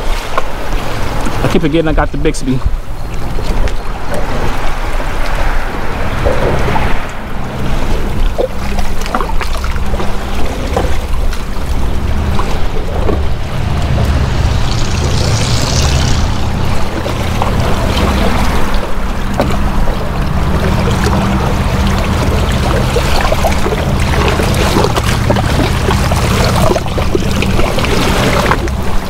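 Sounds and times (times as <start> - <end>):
water splashing against kayak hull: 0.0 - 29.0
wind rumble on microphone: 0.0 - 29.0.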